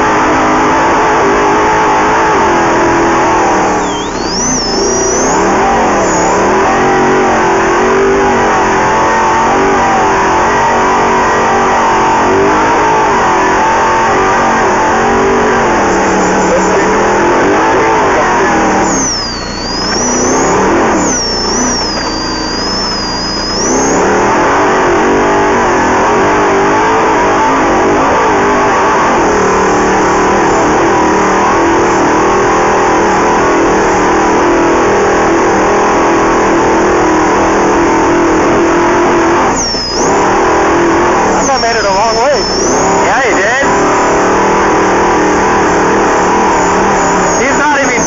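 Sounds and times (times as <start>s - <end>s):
engine at high revs: 0.0s - 48.0s
high wavering whine: 0.0s - 48.0s.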